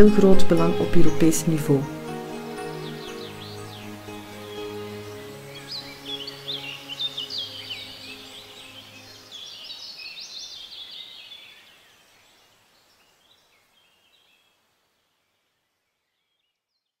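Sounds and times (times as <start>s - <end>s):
birds chirping and trilling: 0.0s - 14.5s.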